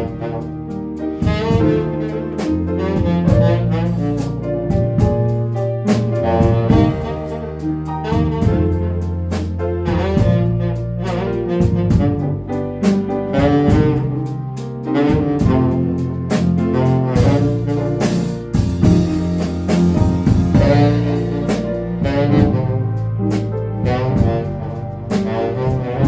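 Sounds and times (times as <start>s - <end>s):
jazzy band instrumental: 0.0s - 26.0s
steady drum beat: 0.0s - 26.0s.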